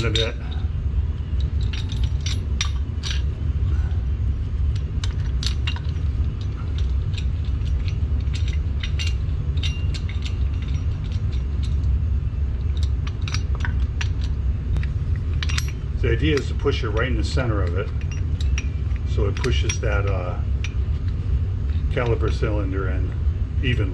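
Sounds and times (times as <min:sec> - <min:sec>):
metal clicks and clinks: 0:00.0 - 0:00.7, 0:01.3 - 0:03.4, 0:04.7 - 0:12.0, 0:12.6 - 0:23.2
steady low hum: 0:00.0 - 0:23.9.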